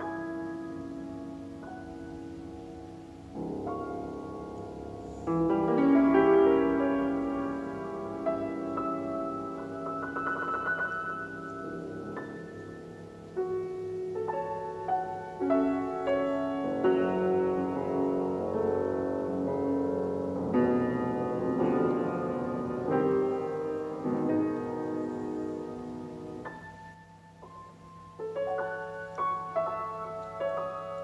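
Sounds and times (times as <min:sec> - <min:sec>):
solo grand piano: 0:00.0 - 0:31.0.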